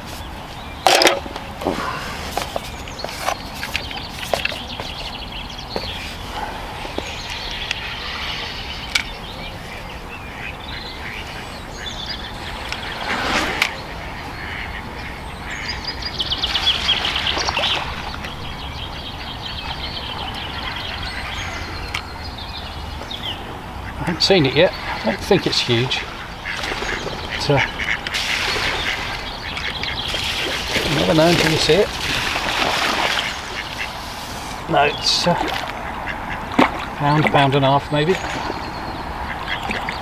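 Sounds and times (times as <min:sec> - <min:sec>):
birds calling: 0:00.0 - 0:40.0
ducks quacking: 0:05.6 - 0:40.0.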